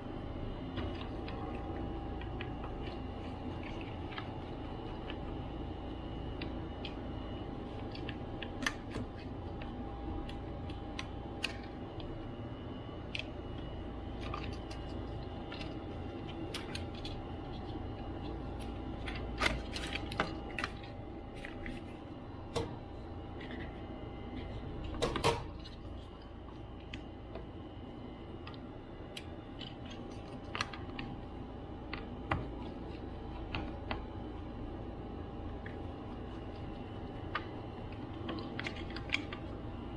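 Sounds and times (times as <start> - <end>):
steady background hum: 0.0 - 39.9.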